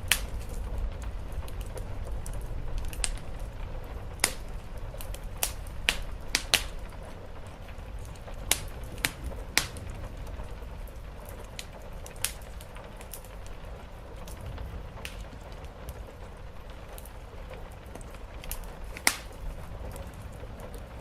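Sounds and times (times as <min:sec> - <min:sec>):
rain on a roof: 0:00.0 - 0:21.0
wood fire crackling and popping: 0:00.0 - 0:21.0.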